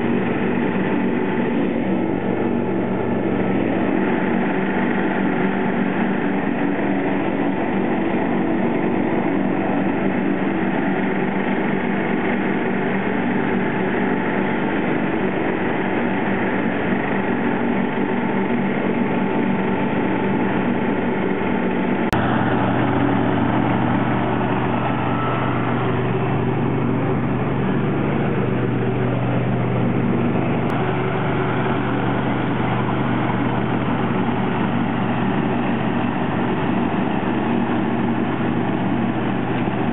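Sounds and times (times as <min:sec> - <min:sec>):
lawn tractor engine mowing: 0:00.0 - 0:39.9
low hum: 0:00.0 - 0:39.9.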